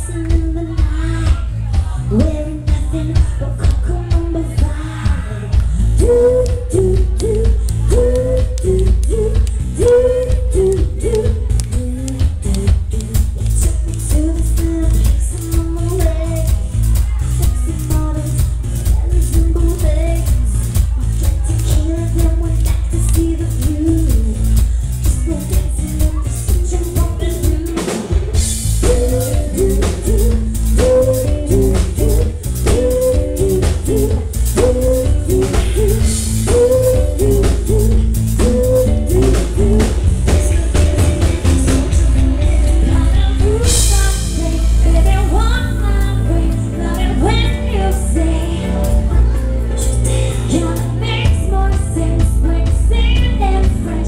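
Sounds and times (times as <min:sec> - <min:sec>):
drum kit beating: 0:00.0 - 0:54.0
heavy bass line: 0:00.0 - 0:54.0
woman singing: 0:00.0 - 0:54.0.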